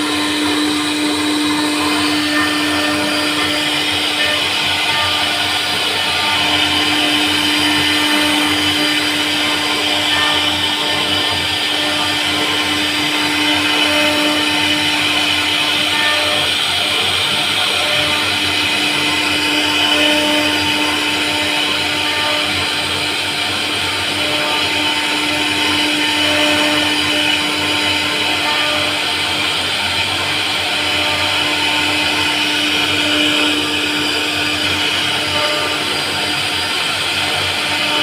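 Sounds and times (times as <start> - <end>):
router spindle humming and whining: 0.0 - 38.0.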